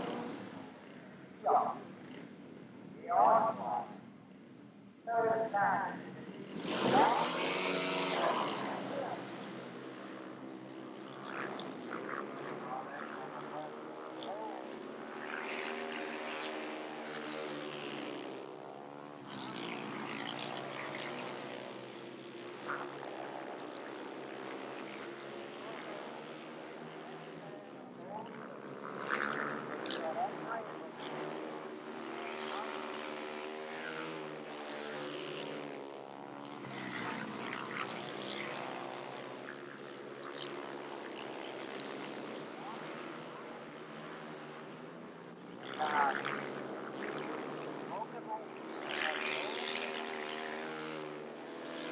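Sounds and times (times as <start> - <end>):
motorcycles racing: 0.0 - 51.9.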